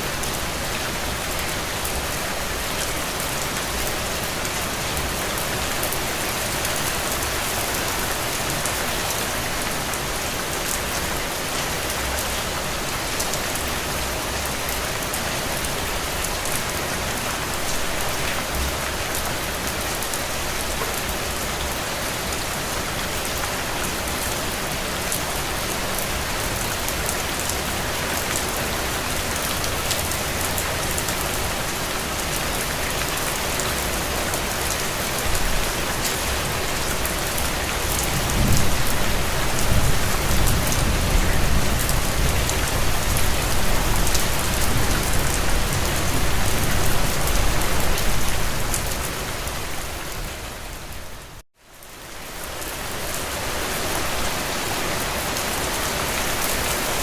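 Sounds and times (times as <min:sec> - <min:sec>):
rain on a window: 0:00.1 - 0:49.4.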